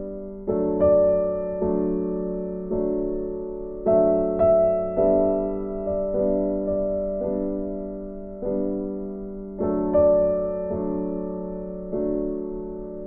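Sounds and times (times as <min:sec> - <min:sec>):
soft electric piano chords: 0:00.0 - 0:13.0.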